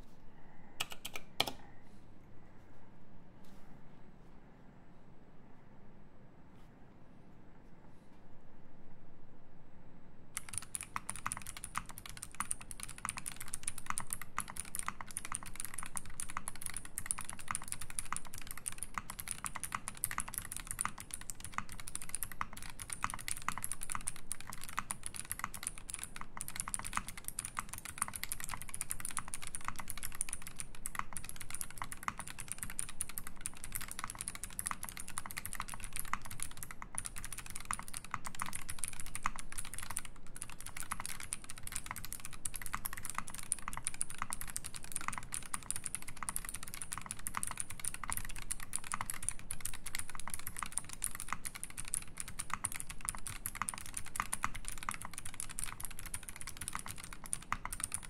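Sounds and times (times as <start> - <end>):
mechanical keyboard typing: 0.8 - 1.7, 10.4 - 58.0.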